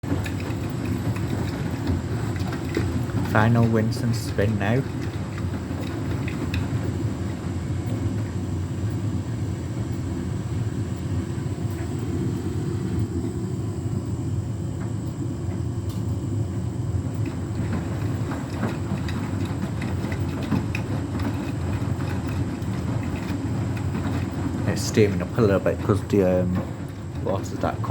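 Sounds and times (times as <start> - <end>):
tumble dryer running: 0.0 - 27.9
washing machine rumbling: 0.0 - 27.9.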